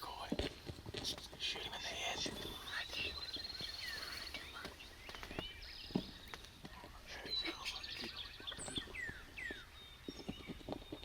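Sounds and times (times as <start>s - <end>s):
faint rustling: 0.0s - 9.2s
songbirds singing: 0.0s - 11.0s.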